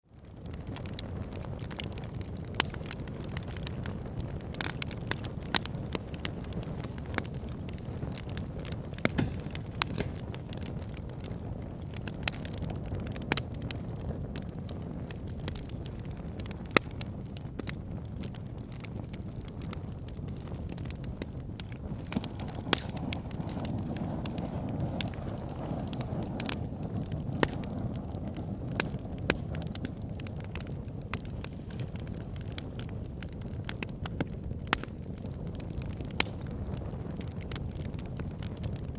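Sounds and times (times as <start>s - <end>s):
low rumble of flames: 0.0s - 38.9s
wood fire crackling and popping: 0.1s - 38.9s.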